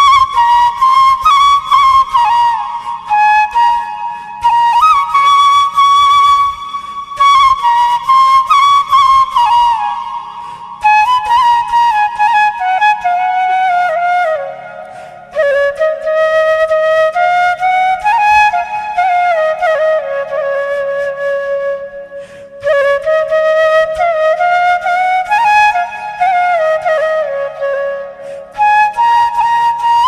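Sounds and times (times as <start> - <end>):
flute melody: 0.0 - 30.0
soft steady accompaniment: 0.0 - 30.0.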